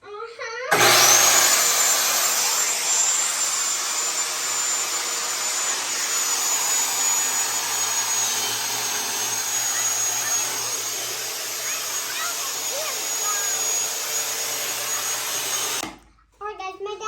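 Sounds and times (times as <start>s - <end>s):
power saw whining: 0.7s - 16.0s.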